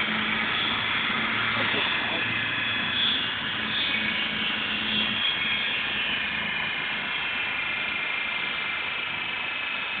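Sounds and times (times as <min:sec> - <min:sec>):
car wheels spinning dyno rollers: 0:00.0 - 0:10.0.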